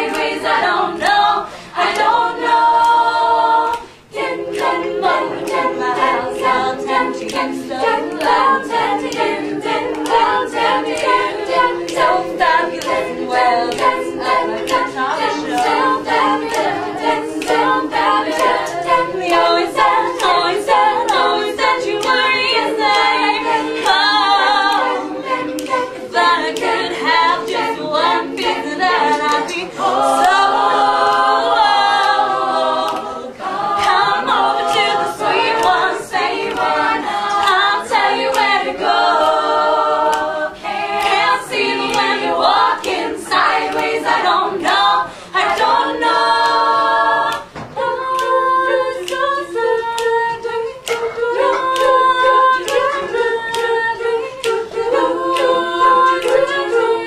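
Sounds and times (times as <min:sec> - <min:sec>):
female backing harmonies: 0:00.0 - 0:57.0.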